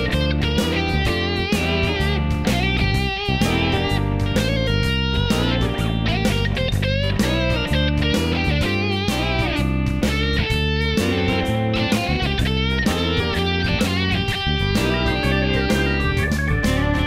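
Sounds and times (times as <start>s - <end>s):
electric guitar music with bass beat: 0.0s - 17.0s.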